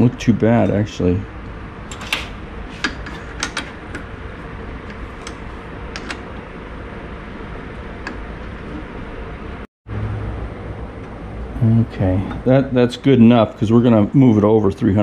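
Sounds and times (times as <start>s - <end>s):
deeper hum: 0.0s - 15.0s
workshop hum: 0.0s - 15.0s.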